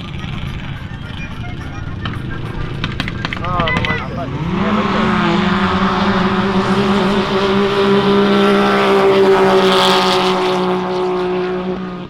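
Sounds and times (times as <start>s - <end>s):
small engine at high revs: 0.0s - 12.0s.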